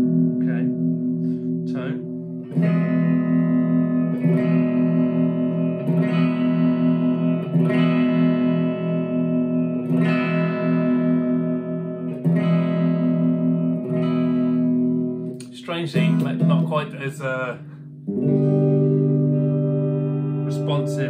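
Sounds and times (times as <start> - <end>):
electric guitar chords strummed: 0.0 - 21.0.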